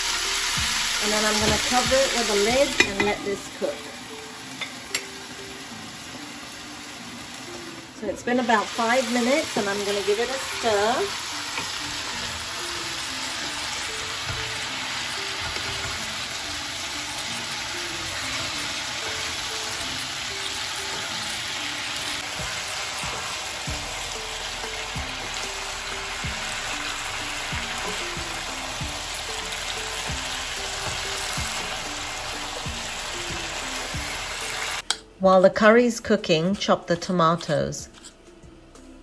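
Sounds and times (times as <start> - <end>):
food sizzling in oil: 0.0 - 34.8
soft background music: 0.0 - 39.0.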